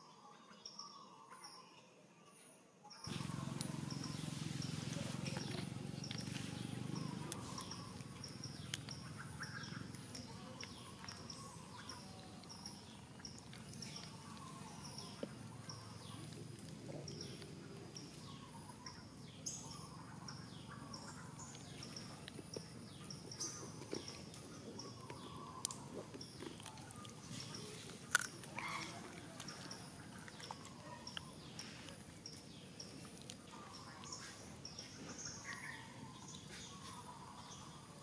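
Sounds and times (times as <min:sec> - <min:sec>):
faint outdoor background noise: 0:00.0 - 0:38.0.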